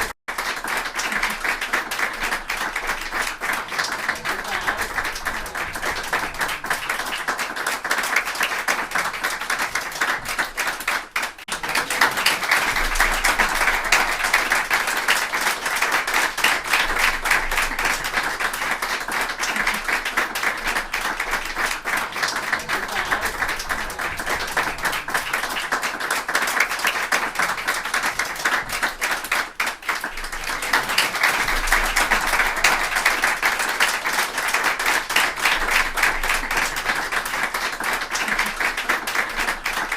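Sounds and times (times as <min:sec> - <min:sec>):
crowd clapping: 0:00.0 - 0:39.9.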